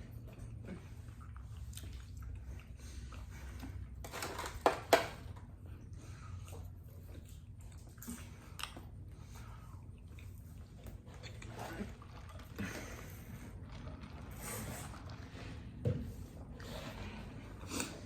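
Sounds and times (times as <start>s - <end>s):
chewing and biting food: 0.0s - 4.6s, 5.4s - 15.8s.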